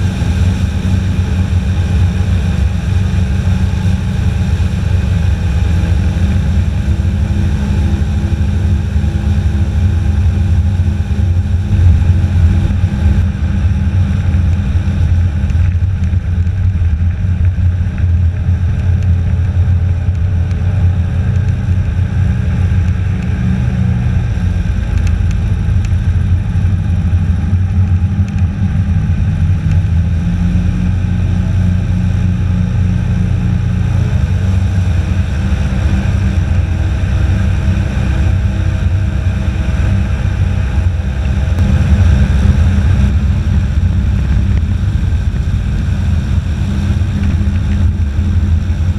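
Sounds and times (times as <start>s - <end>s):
airboat engine and propeller running: 0.0s - 48.9s.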